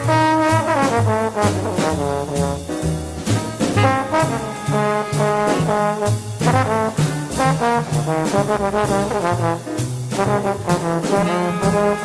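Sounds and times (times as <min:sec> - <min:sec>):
trombone solo: 0:00.0 - 0:12.0
walking upright bass: 0:00.0 - 0:12.0.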